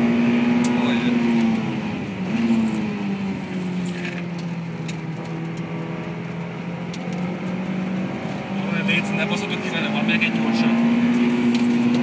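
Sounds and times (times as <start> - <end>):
car engine at high revs: 0.0 - 12.0
road and wind noise: 0.0 - 12.0.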